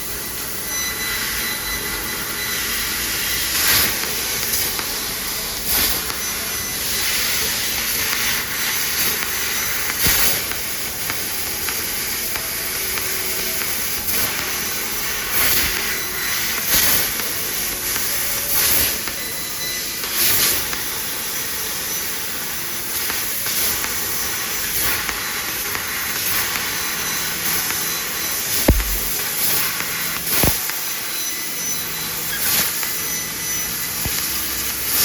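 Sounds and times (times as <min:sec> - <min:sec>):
laser cutter hissing: 0:00.0 - 0:35.0.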